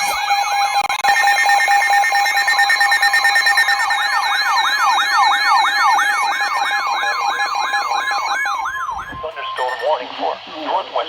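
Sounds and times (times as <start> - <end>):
siren-like sweeps: 0.0 - 10.2
steady electronic tone: 0.0 - 10.4.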